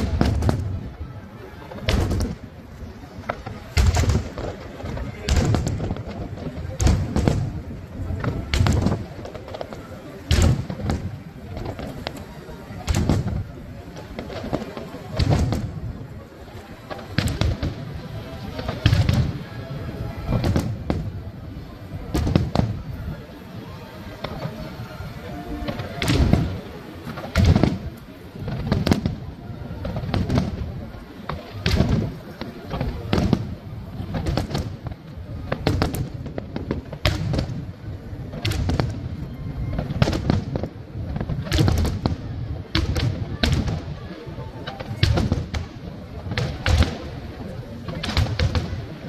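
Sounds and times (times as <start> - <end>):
continuous low rumble: 0.0 - 49.0
fireworks bangs: 0.0 - 49.0.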